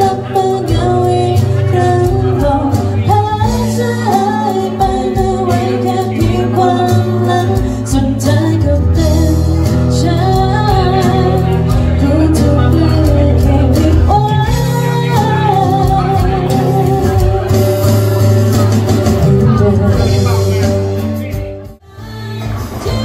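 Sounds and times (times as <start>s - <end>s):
woman singing into microphone: 0.0s - 20.5s, 21.8s - 23.0s
live band: 0.0s - 23.0s
steady bass notes: 0.0s - 23.0s.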